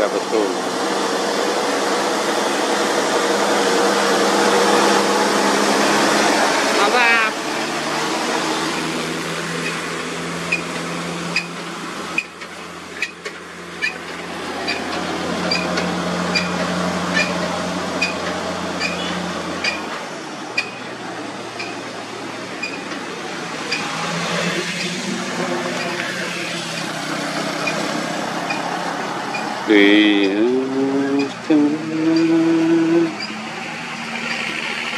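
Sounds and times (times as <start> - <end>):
diesel truck engine droning: 0.0 - 34.9.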